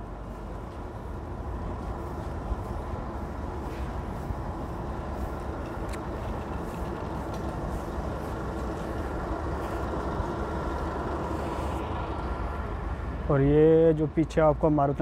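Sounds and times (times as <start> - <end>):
heavy vehicle engine running: 0.0 - 15.0
street traffic rumble: 0.0 - 15.0.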